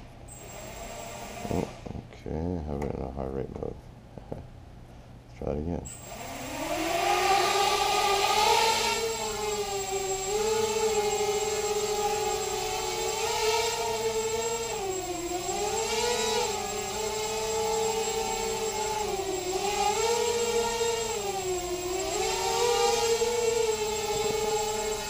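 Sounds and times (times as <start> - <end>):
quadcopter motors whining: 0.3 - 2.0, 5.9 - 25.0.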